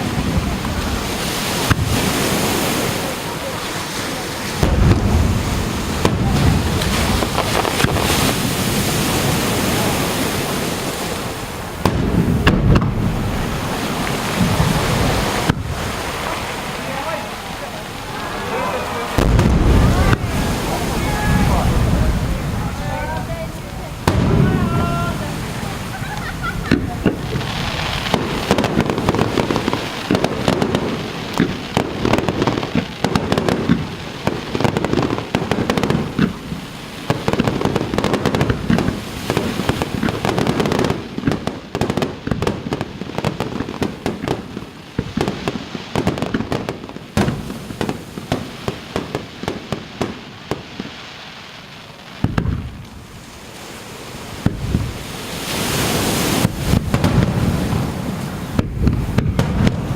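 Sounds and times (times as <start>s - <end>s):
fireworks bursts and crackling: 0.0s - 59.9s
fireworks hiss and bangs: 0.0s - 59.9s.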